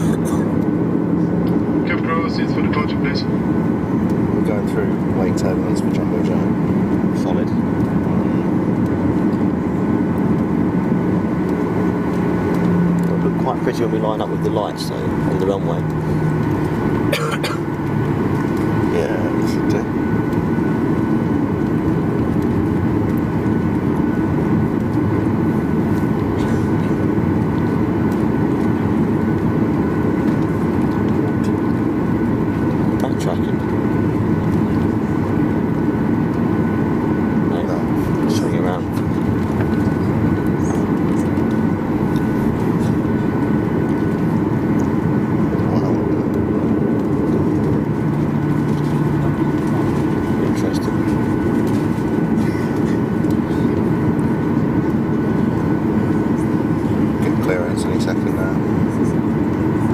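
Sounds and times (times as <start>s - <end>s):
faint steady whine: 0.0s - 59.9s
jet engine drone in cabin: 0.0s - 59.9s
low steady hum: 0.0s - 59.9s.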